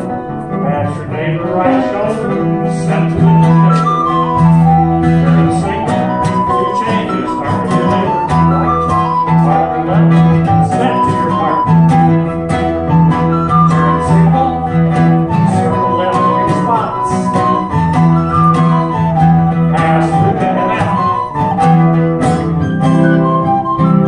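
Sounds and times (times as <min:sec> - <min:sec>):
guitar: 0:00.0 - 0:24.0
recorder melody: 0:00.0 - 0:24.0.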